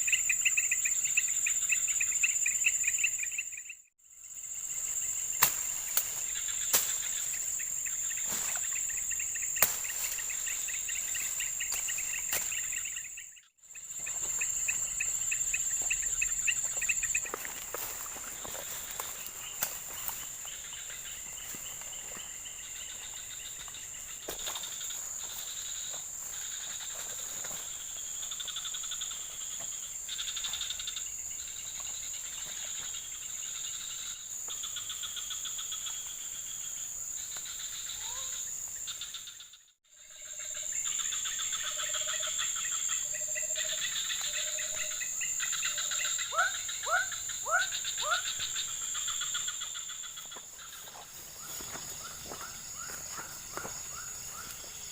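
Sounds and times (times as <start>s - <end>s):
insects shrilling and trilling: 0.0s - 54.9s.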